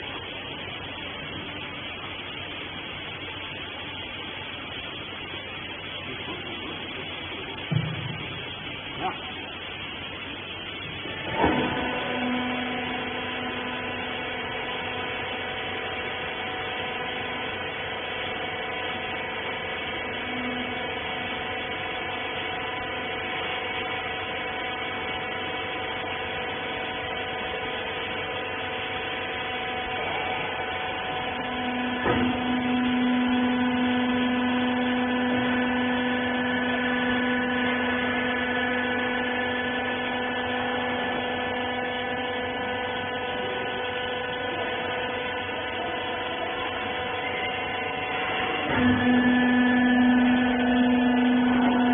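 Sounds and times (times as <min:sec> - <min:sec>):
hydraulic power unit humming: 0:00.0 - 0:51.9.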